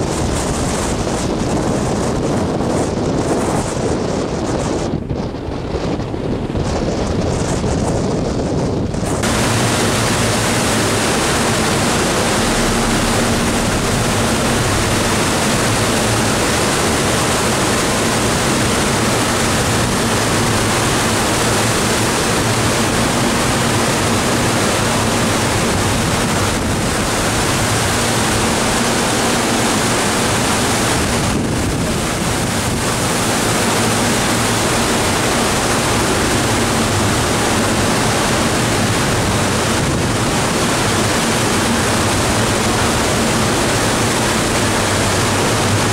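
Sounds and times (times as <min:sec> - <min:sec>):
rough sea breaking: 0:00.0 - 0:45.9
strong storm wind: 0:00.0 - 0:45.9
wind on microphone: 0:00.0 - 0:45.9.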